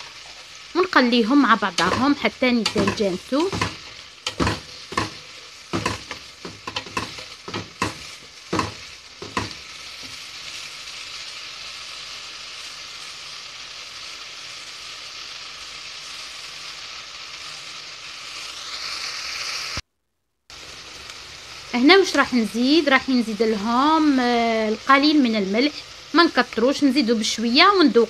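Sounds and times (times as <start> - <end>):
onions sizzling in a pot: 0.0 - 19.8, 20.5 - 28.0.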